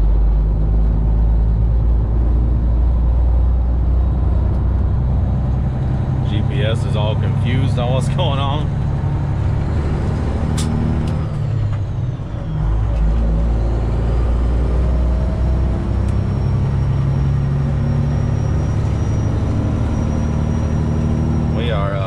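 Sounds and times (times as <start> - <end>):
deep low rumble: 0.0 - 22.0
truck diesel engine running: 0.0 - 22.0.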